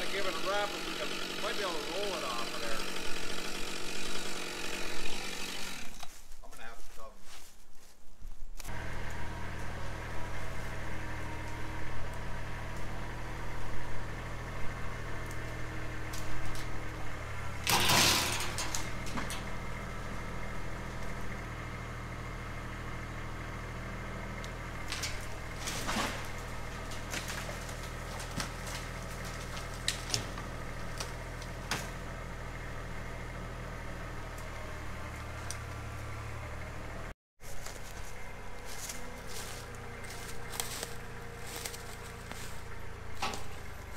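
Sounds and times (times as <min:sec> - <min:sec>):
engine idling: 0:00.0 - 0:06.0, 0:08.7 - 0:43.9.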